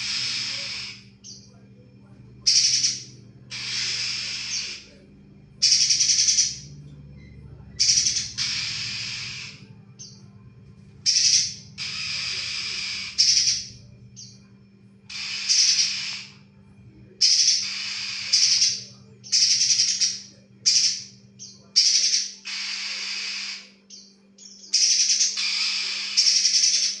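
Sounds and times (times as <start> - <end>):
bird chattering song: 0.0 - 1.6, 2.4 - 5.0, 5.6 - 10.3, 11.0 - 14.4, 15.1 - 16.4, 17.2 - 27.0
faint steady hum: 0.0 - 27.0.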